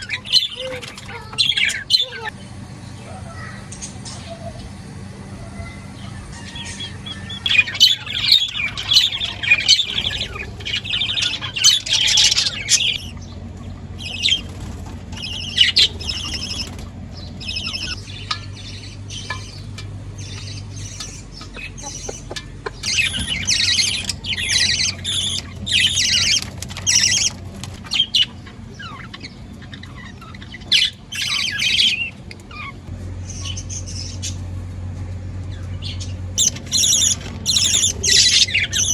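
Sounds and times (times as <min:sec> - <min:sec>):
pet birds chirping and squawking: 0:00.0 - 0:34.5, 0:35.5 - 0:38.9.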